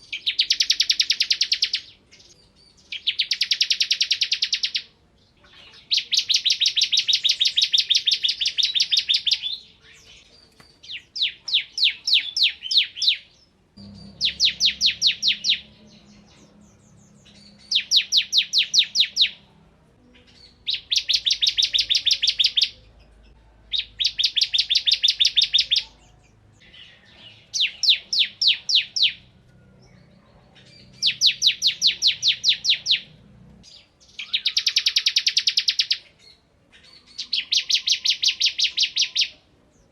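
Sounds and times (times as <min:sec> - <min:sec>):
bird singing trilled notes: 0:00.0 - 0:39.9.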